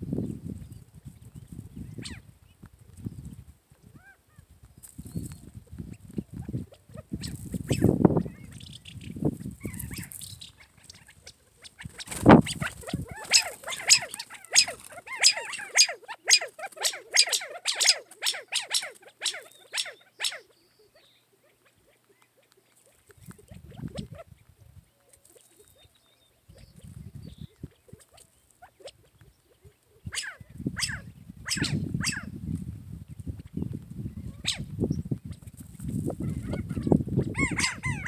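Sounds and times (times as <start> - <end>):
birds pecking on gravel: 0.4 - 20.7, 21.5 - 30.7, 34.8 - 38.0.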